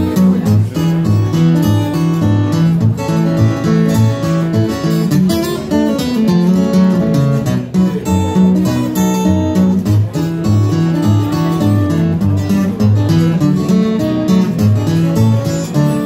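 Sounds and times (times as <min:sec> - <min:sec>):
acoustic guitar blues tune: 0:00.0 - 0:16.0.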